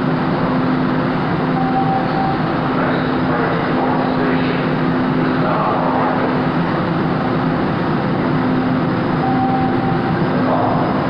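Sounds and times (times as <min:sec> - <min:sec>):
train mechanical hum: 0:00.0 - 0:11.0.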